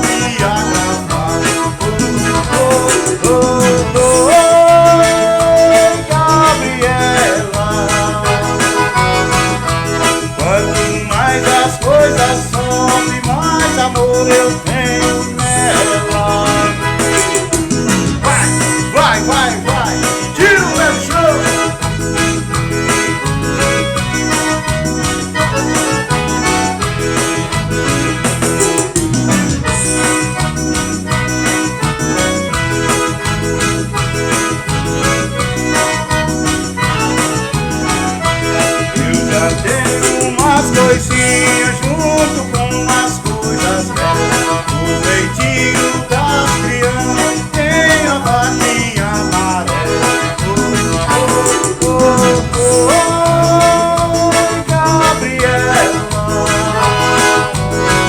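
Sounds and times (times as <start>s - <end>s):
accordion melody: 0.0s - 58.0s
band playing instrumental music: 0.0s - 58.0s.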